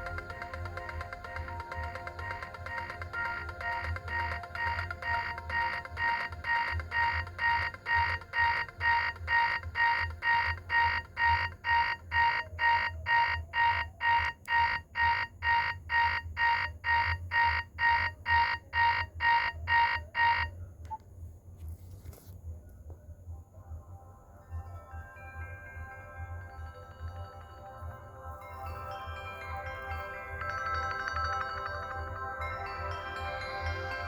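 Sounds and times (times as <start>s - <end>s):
phone ringtone beeping: 0.0s - 20.5s, 26.0s - 34.0s.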